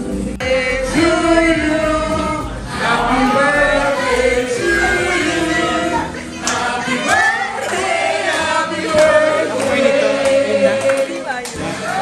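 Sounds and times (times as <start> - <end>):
voices singing long gliding notes: 0.0 - 10.9
music: 0.0 - 12.0.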